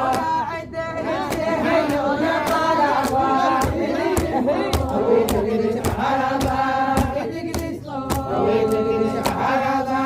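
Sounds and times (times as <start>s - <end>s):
chanted vocals: 0.0s - 10.0s.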